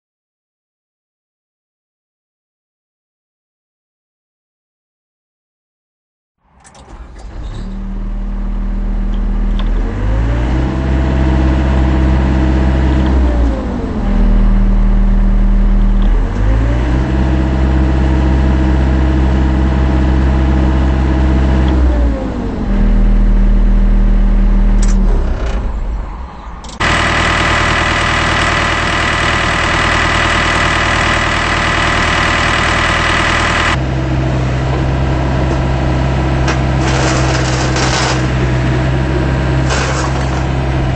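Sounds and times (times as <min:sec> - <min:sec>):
loud harsh engine sound: 0:06.5 - 0:40.9
diesel engine idling and revving: 0:06.6 - 0:40.9.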